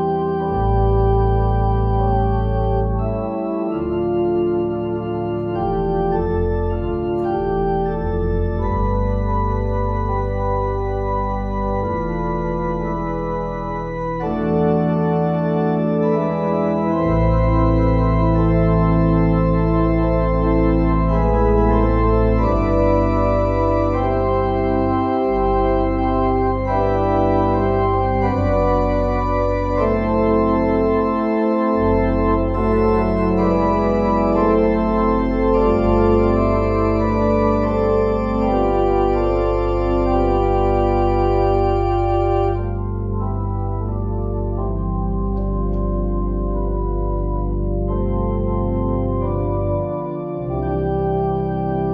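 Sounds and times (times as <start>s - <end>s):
organ playing sustained chords: 0.0s - 51.9s.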